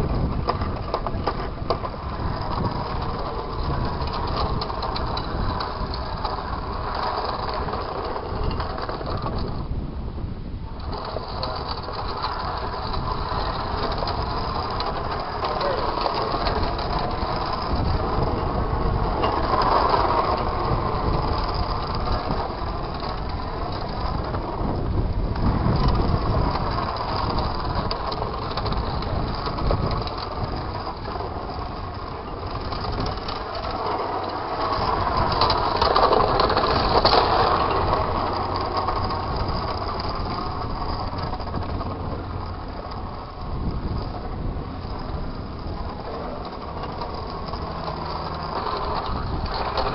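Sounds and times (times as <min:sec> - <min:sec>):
wheels on rough asphalt: 0:00.0 - 0:49.9.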